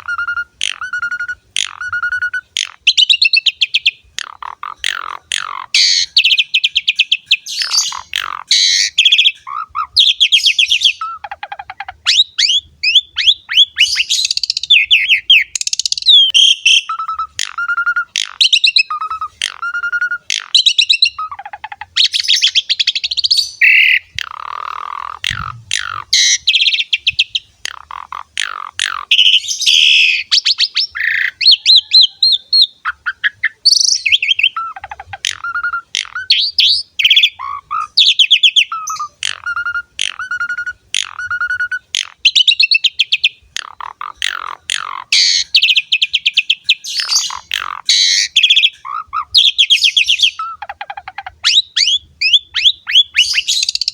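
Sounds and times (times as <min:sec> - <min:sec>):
starling singing: 0:00.0 - 0:53.9.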